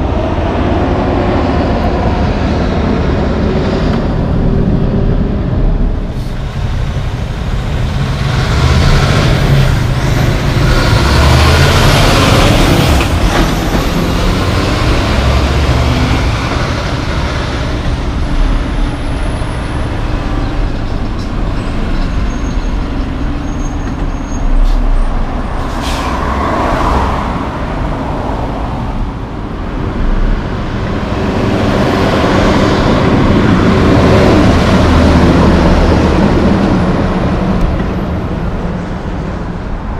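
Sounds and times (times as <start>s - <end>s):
passing cars: 0.0s - 39.9s
trucks engine rumble passing: 0.0s - 39.9s.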